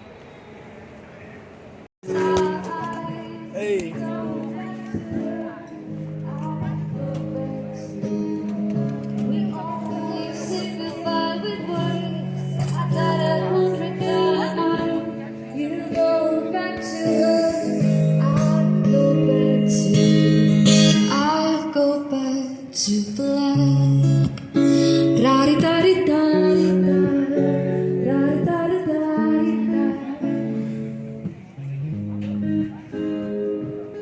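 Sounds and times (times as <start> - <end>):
person singing: 2.0 - 31.0
guitar music: 2.0 - 34.0.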